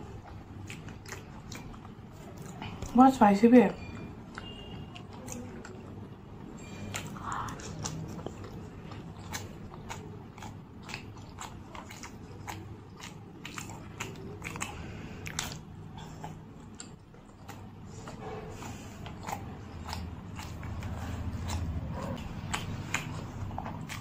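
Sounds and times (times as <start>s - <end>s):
person chewing: 0.0s - 3.0s, 3.8s - 24.0s.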